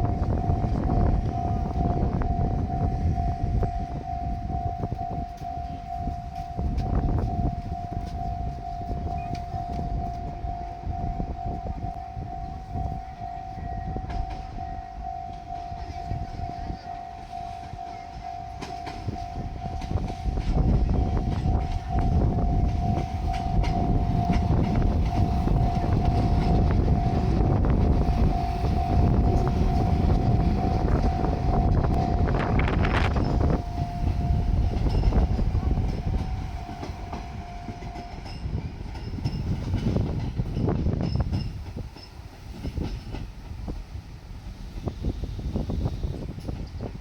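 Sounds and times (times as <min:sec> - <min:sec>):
diesel train rumbling: 0:00.0 - 0:47.0
level-crossing warning bell: 0:00.0 - 0:47.0
wind on microphone: 0:00.0 - 0:47.0.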